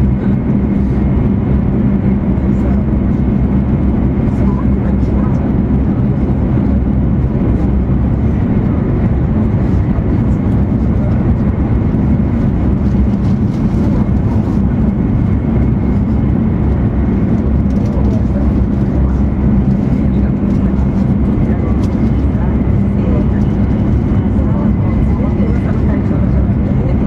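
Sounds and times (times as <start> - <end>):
constant hum: 0.0 - 27.0
train cabin rumble: 0.0 - 27.0.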